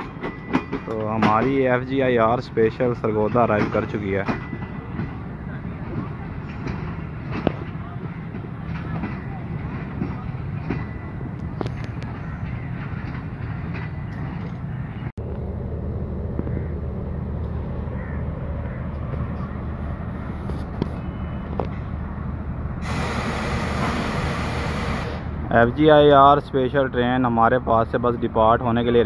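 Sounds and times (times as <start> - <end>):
train coaches rolling on tracks: 0.0 - 15.1, 16.9 - 29.0
diesel locomotive idling: 0.0 - 29.0.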